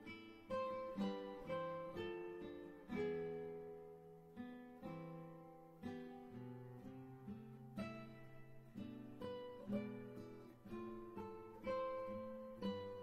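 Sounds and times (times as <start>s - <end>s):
acoustic guitar plucked notes: 0.0s - 13.0s.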